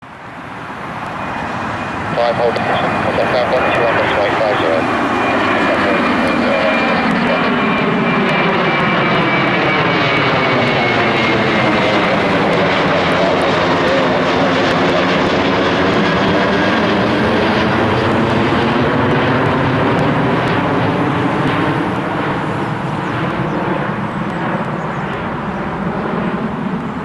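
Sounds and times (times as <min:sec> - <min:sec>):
jet engines at takeoff power: 0:00.0 - 0:27.0.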